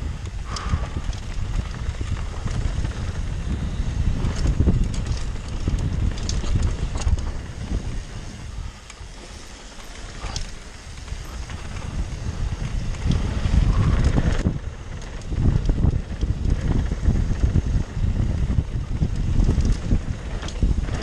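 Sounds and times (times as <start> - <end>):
bike rattling clicks: 0.0 - 21.0
tyres rumbling on dirt: 0.0 - 21.0
wind buffeting microphone: 0.0 - 21.0.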